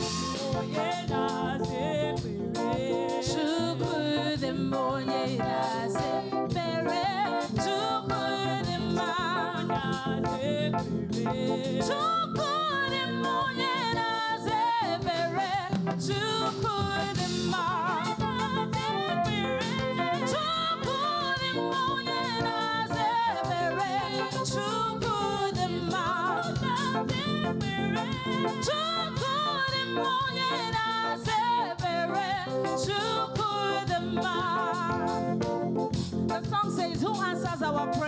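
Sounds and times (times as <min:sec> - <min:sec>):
band playing: 0:00.0 - 0:38.0
people singing praise music: 0:00.0 - 0:38.0
quick percussion beat: 0:00.0 - 0:38.0.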